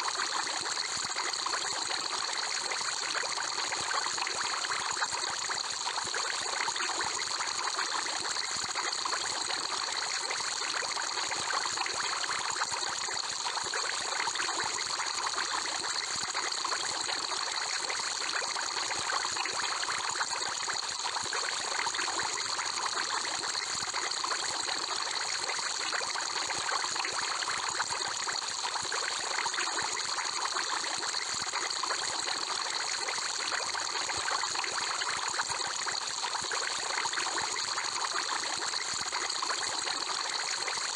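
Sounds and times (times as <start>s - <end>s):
aquarium water bubbling: 0.1s - 40.9s.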